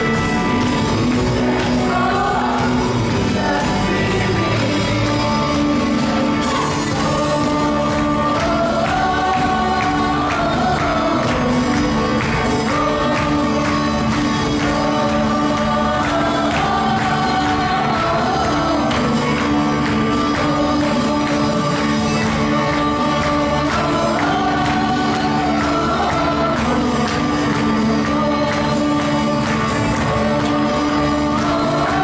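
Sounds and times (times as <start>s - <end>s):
drums: 0.0s - 32.0s
electric guitars: 0.0s - 32.0s
keyboard: 0.0s - 32.0s
voices singing: 0.0s - 32.0s.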